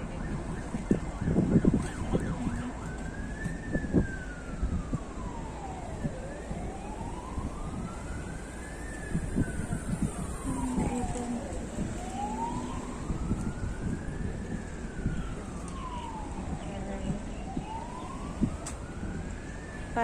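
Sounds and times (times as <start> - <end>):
emergency siren wailing: 0.0 - 20.0.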